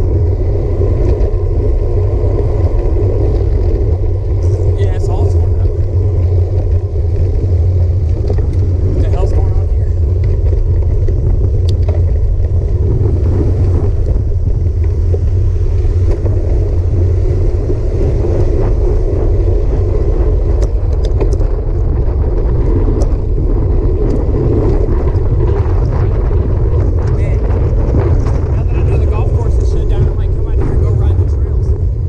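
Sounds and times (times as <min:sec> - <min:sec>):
bike tyres rolling on pavement: 0:00.0 - 0:32.0
wind rumbling on microphone: 0:00.0 - 0:32.0.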